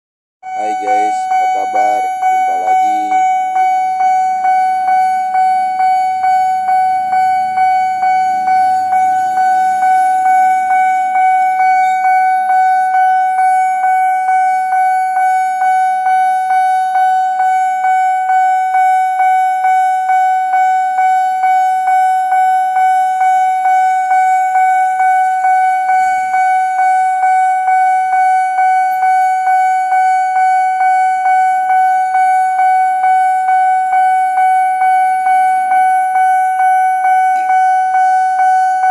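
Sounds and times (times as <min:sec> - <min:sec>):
level-crossing bell ringing: 0:00.4 - 0:38.9.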